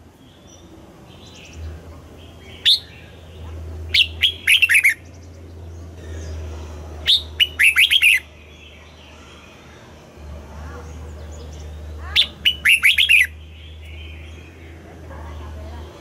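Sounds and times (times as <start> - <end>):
steady low hum: 0.0 - 16.0
bird singing warbled notes: 0.2 - 10.0, 11.3 - 14.8.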